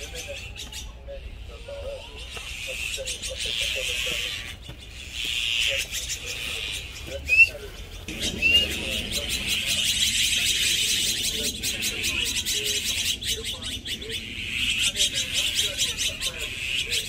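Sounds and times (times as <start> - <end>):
flock of magpies chattering: 0.0 - 17.0.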